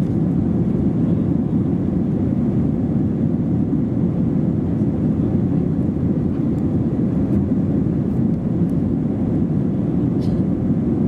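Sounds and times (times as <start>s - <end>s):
jet engines in cabin: 0.0s - 11.0s.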